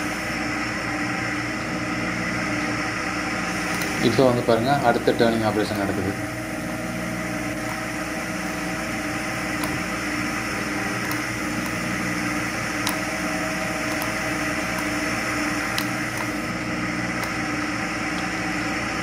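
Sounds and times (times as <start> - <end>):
coolant running: 0.0 - 19.0
lathe spindle hum: 0.0 - 19.0.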